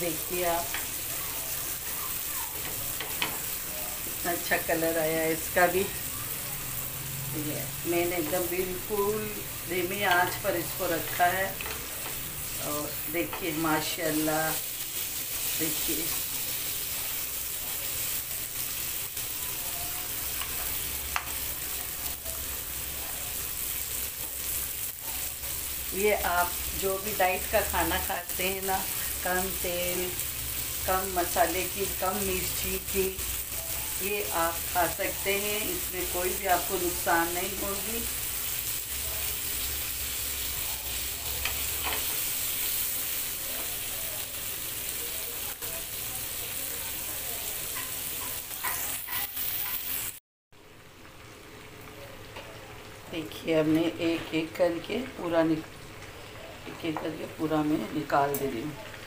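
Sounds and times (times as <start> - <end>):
utensil stirring in pan: 0.0 - 4.7, 5.3 - 50.2
meat sizzling in oil: 0.0 - 59.0.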